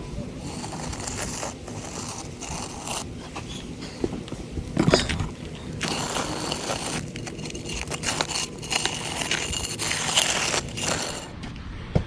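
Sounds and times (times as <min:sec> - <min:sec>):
tool scraping concrete mix: 0:00.2 - 0:11.3.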